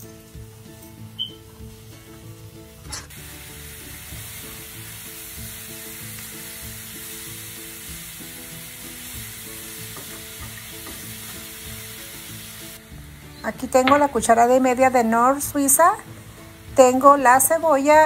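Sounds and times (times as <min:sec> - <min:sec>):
soft background music: 0:00.0 - 0:18.0
vegetables sizzling in a pan: 0:00.0 - 0:18.0.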